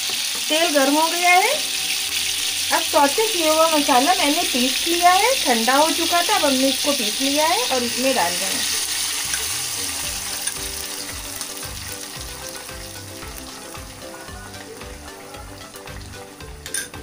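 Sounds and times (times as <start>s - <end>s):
paste sizzling in hot oil: 0.0s - 17.0s.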